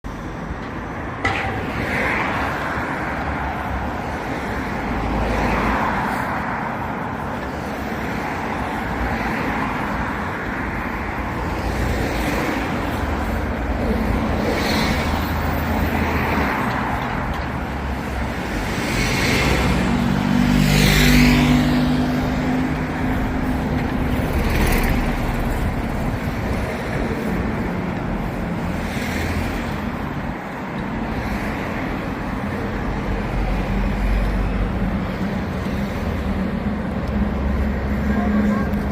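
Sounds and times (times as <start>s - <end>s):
vehicles passing on road: 0.0s - 38.9s.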